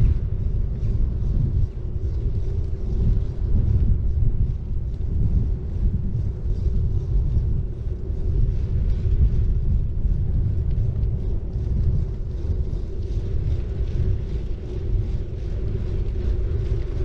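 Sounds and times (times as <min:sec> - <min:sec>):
bike tyres rumbling on road: 0:00.0 - 0:17.0.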